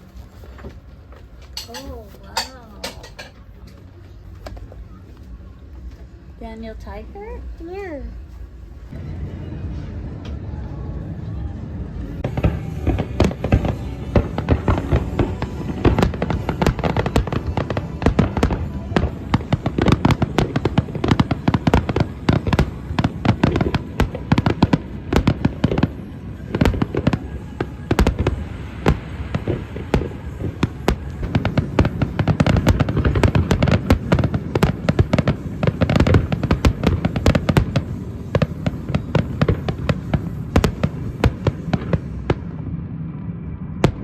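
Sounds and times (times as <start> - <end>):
fireworks bangs and crackles: 0.0 - 44.0
low rumble: 0.0 - 44.0.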